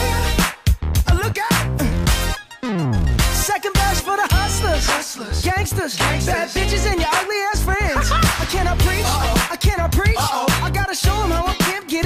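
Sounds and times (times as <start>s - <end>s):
electronic background music: 0.0s - 12.0s.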